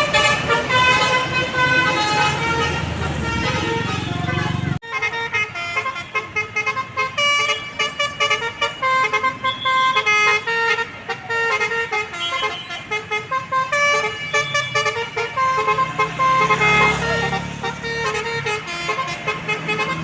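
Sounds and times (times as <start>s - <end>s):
musical bus horn melody: 0.0s - 20.0s.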